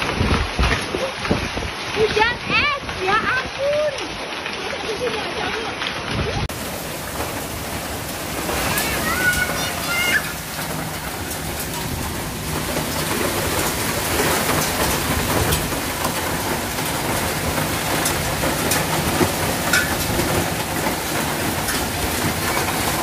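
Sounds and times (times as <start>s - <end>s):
hailstones ticking: 0.0s - 23.0s
heavy rain in wind: 0.0s - 23.0s.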